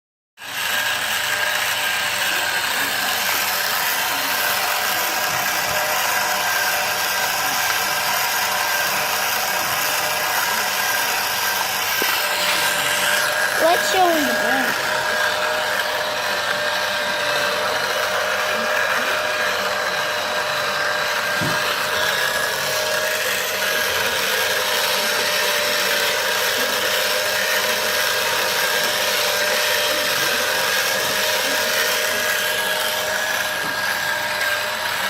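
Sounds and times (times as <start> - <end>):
engine running steadily: 1.3 - 20.4, 21.2 - 35.0.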